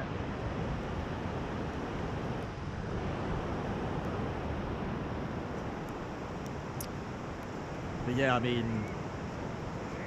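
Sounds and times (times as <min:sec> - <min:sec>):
surf washing onto beach: 0:00.0 - 0:10.0
wind on microphone: 0:00.0 - 0:10.0.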